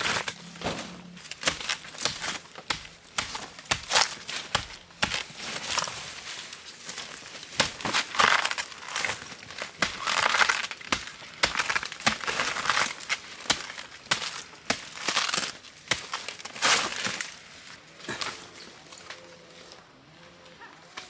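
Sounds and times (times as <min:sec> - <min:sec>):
dry material crunching: 0:00.0 - 0:18.5.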